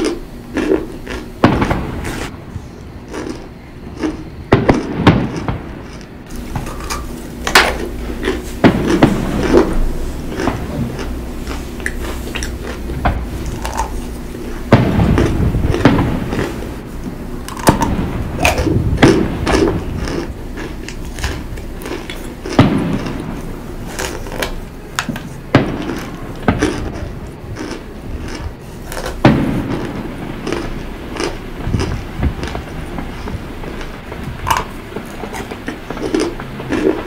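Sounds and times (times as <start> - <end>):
crunching and chewing: 0.0 - 37.0.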